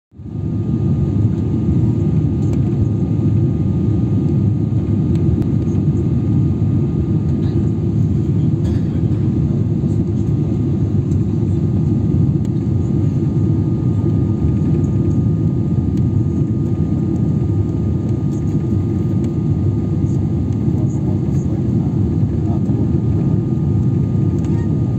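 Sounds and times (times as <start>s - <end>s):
airplane cabin engine rush: 0.2s - 24.9s.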